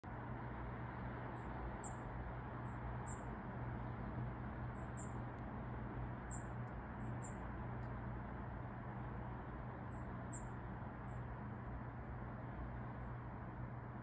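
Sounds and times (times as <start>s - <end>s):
steady low hum and hiss: 0.1s - 14.0s.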